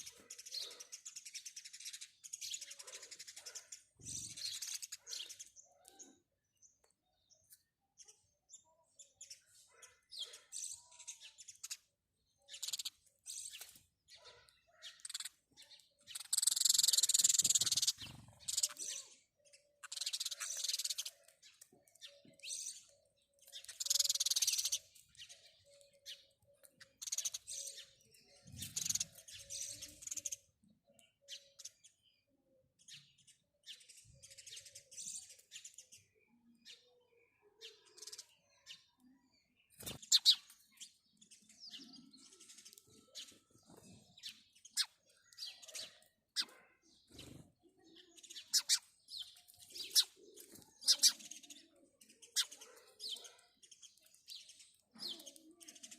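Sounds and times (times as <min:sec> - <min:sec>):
sparrows chirping: 0:00.0 - 0:55.9.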